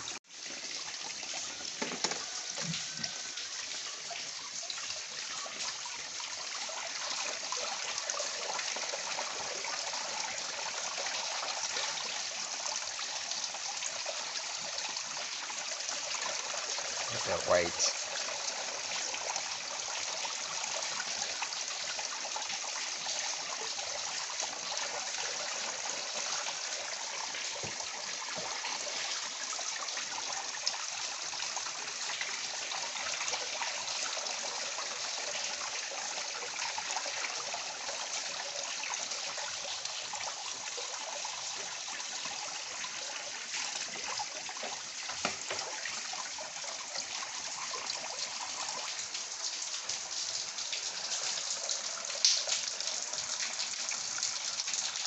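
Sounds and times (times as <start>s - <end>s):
water running into basin: 0.0s - 55.0s.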